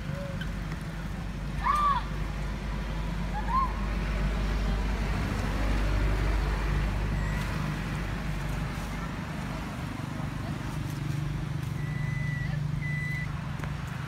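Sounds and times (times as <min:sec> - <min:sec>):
motor traffic rumble: 0:00.0 - 0:14.0.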